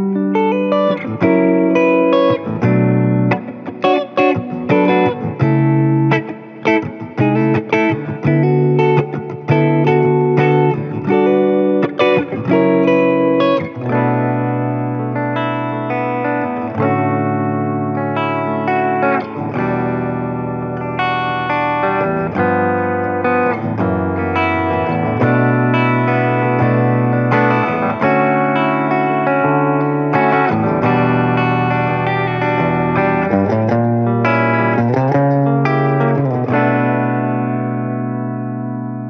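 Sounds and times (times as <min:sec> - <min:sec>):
backing track: 0:00.0 - 0:37.7
electric guitar with effects: 0:00.0 - 0:39.0.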